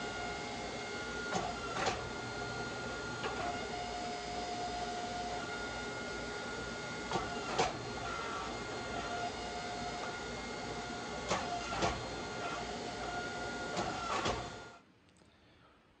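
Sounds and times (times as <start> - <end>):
faint pump whine: 0.0 - 14.8
hydraulic press running: 0.0 - 14.8.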